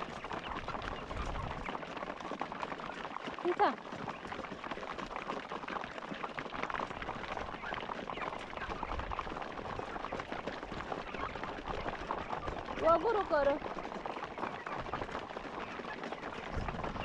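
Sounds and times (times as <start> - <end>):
beaks pecking at feed: 0.0 - 17.0
chicks peeping: 0.0 - 17.0.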